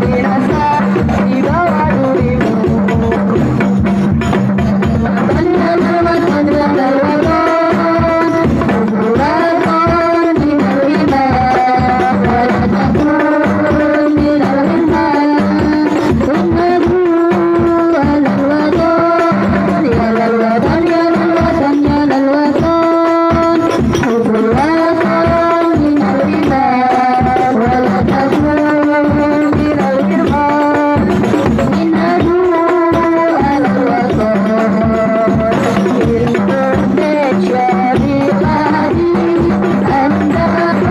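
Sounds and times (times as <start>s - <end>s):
frame drums beating: 0.0s - 40.9s
woman singing into a microphone: 0.0s - 40.9s.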